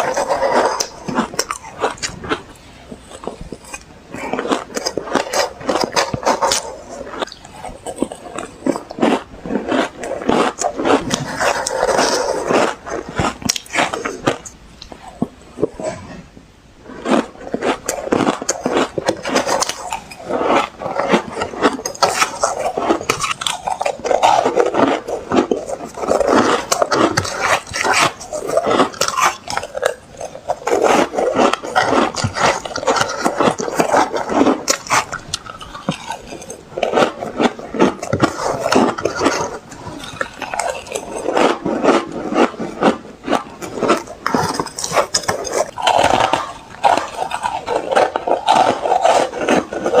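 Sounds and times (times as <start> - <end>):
ice being chewed crunching: 0.0 - 16.2, 16.8 - 50.0.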